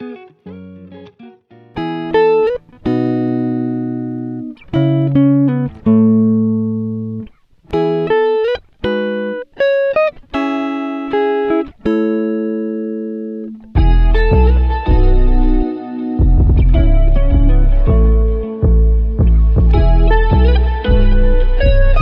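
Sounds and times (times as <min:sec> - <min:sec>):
guitar playing notes and chords: 0:00.0 - 0:22.0.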